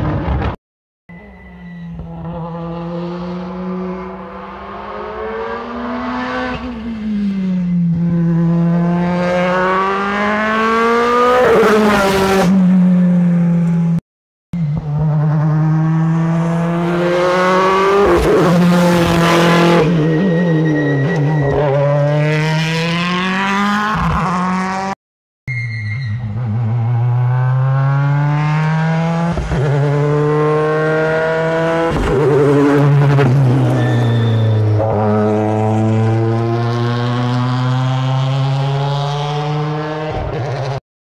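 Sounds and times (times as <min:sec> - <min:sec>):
rally car engine accelerating: 0:01.6 - 0:14.0, 0:14.6 - 0:25.0, 0:26.3 - 0:40.8.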